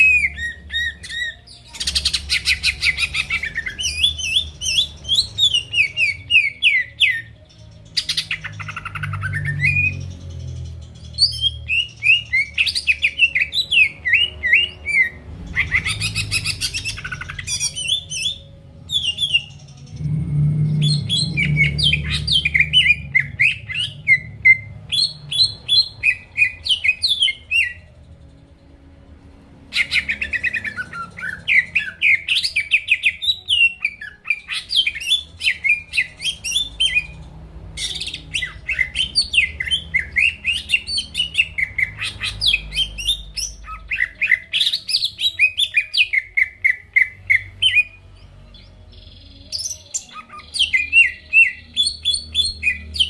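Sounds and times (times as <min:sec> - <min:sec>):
bird chirping and whistling: 0:00.0 - 0:27.9, 0:29.7 - 0:48.0, 0:48.6 - 0:53.0.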